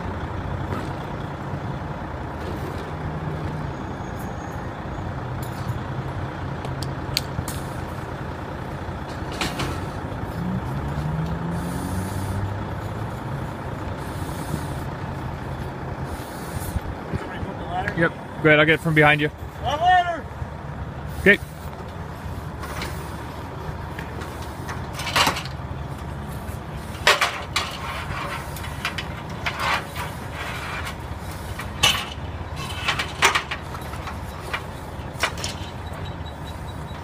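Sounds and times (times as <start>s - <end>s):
engine running with low hum: 0.0s - 37.0s.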